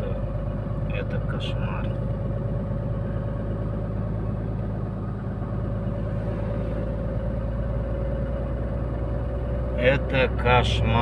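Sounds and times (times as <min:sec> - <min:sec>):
engine whine: 0:00.0 - 0:11.0
truck diesel engine drone: 0:00.0 - 0:11.0.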